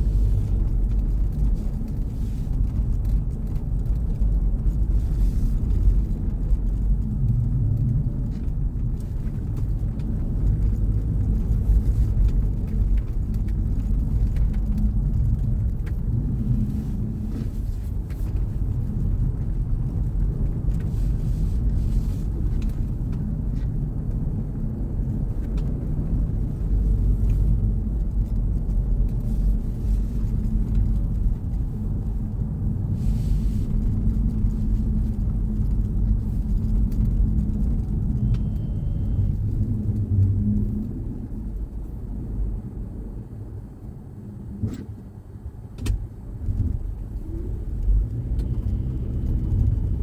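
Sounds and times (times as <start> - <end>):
car driving on snowy road: 0.0 - 50.0.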